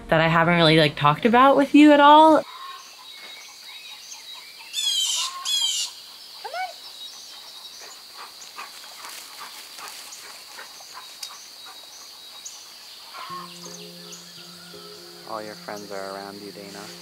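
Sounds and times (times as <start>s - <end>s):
birds chirping: 2.0s - 17.0s.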